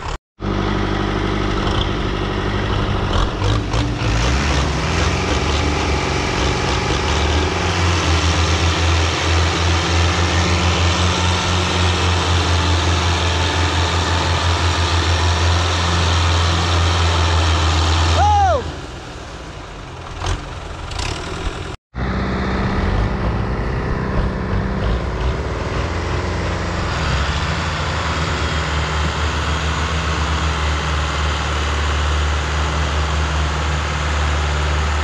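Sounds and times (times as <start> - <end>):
tractor diesel engine straining: 0.0 - 35.0.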